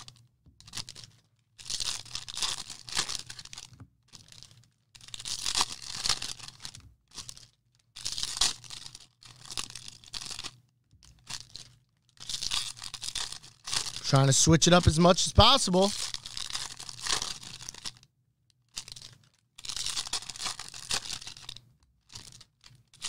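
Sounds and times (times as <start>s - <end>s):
wrappers being torn and crinkled: 0.0s - 14.3s, 15.9s - 23.0s.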